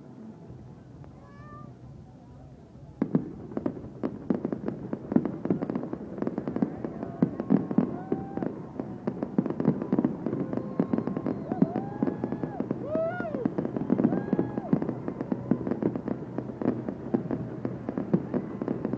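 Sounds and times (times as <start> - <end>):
fireworks bangs and crackles: 0.4 - 18.9.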